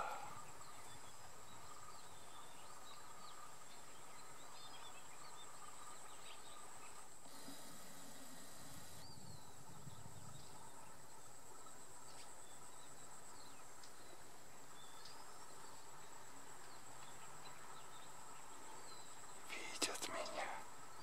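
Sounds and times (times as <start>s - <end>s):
faint bird chirps: 0.0s - 21.0s
insects droning: 0.0s - 21.0s.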